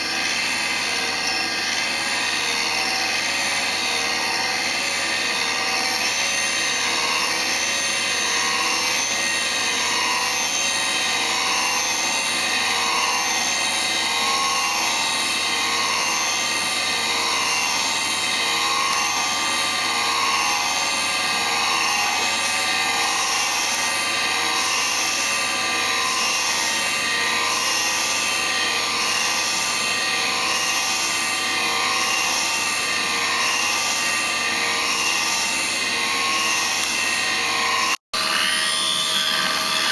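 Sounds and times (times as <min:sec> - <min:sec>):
grinder spindle whining: 0:00.0 - 0:39.9.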